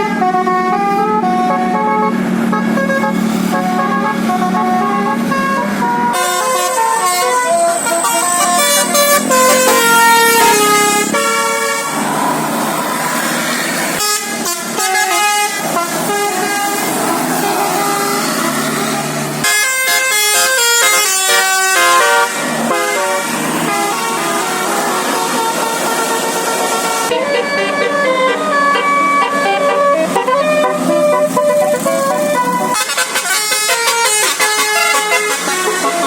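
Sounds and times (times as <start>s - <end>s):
musical bus horn melody: 0.0s - 12.3s, 13.2s - 36.0s.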